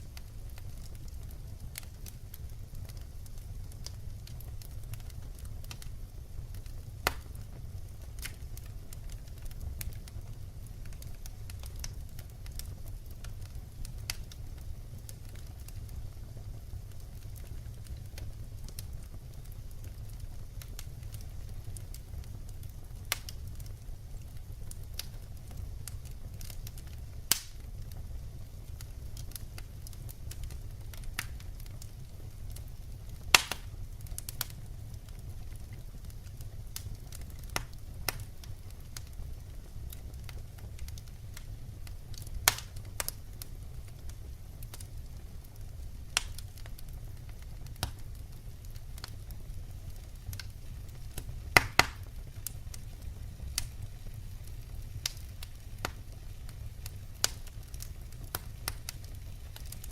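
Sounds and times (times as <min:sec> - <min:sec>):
wood fire burning: 0:00.0 - 0:59.9.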